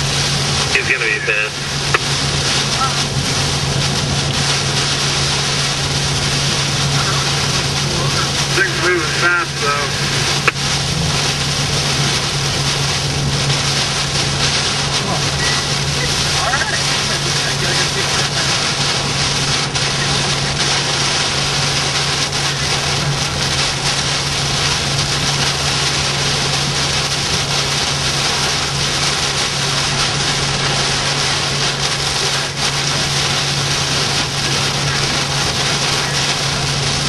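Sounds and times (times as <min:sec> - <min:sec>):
car engine drone: 0:00.0 - 0:37.0
road noise hiss: 0:00.0 - 0:37.0.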